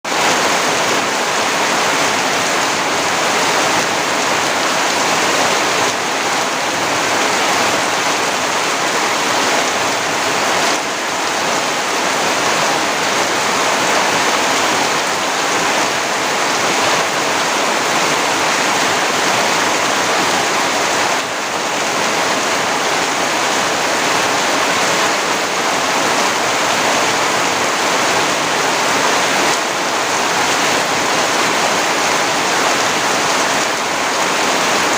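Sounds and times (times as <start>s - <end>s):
rain falling steadily: 0.1s - 34.9s.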